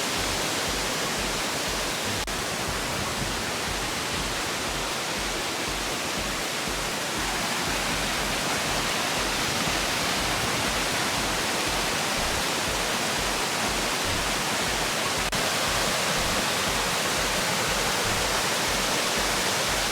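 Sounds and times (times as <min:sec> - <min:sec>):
waterfall rushing: 0:00.0 - 0:19.9.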